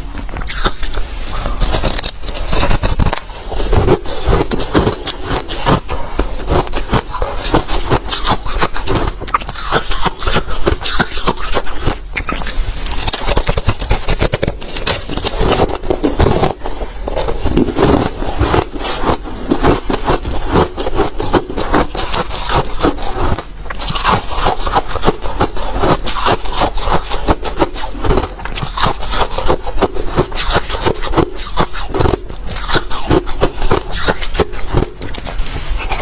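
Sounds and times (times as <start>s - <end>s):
chewing crunchy ice: 0.3s - 36.0s.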